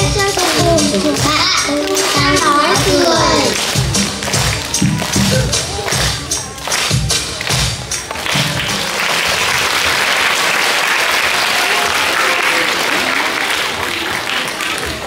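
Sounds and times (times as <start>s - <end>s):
audience applauding: 0.2s - 15.0s.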